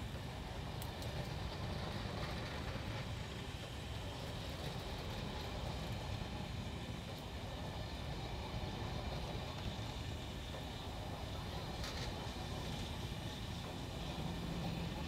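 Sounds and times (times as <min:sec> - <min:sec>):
train coaches rolling on rails: 0:00.0 - 0:15.0.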